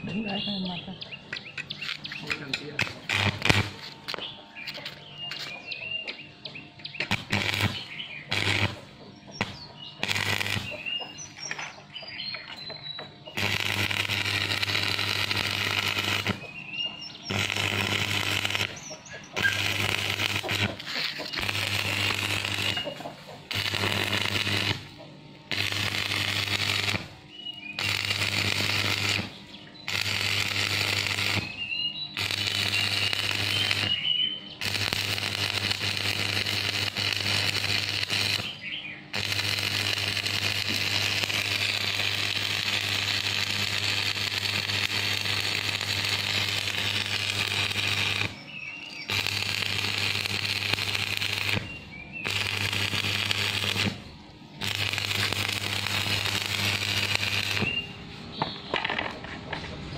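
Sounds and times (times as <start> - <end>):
electrical buzz: 0.0 - 59.9
welding arc crackling and hissing: 1.6 - 5.6, 7.0 - 11.7, 13.3 - 16.5, 17.1 - 57.9.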